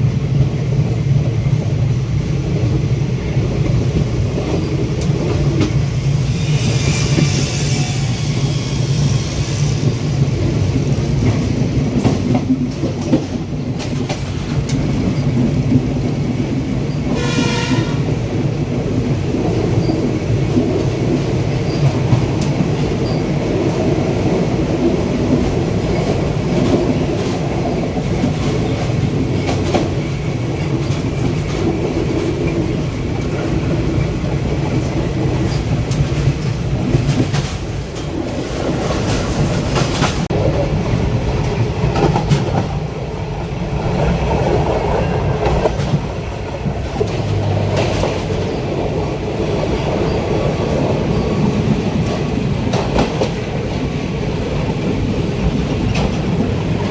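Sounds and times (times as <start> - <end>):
train rumble and wheel clatter: 0.0 - 56.9.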